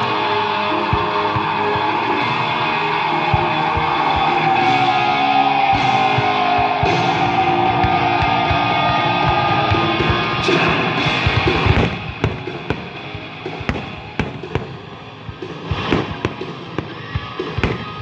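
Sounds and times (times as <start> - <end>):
rock music over loudspeakers: 0.0 - 18.0.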